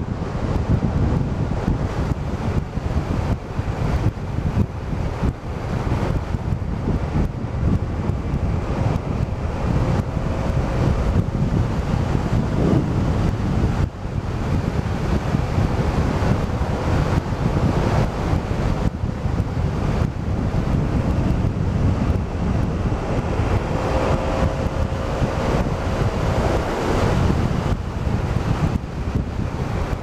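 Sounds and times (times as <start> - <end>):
road noise: 0.0 - 30.0
scooter engine: 0.0 - 30.0
wind buffeting microphone: 0.0 - 30.0.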